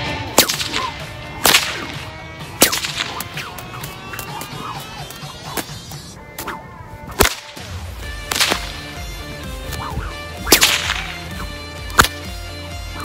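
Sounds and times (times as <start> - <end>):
whip cracking: 0.0 - 9.0, 9.6 - 12.4.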